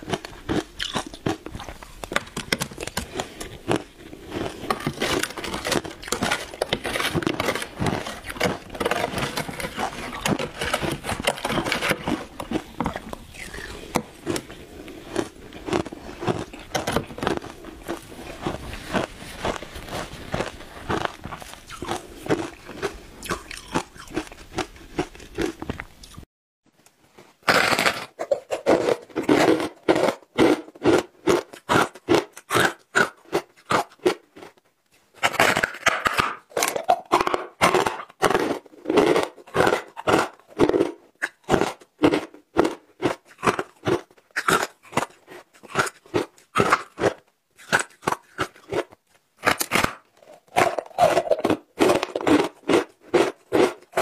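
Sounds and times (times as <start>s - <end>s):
crunching and chewing ice: 0.0s - 26.2s, 27.3s - 54.0s.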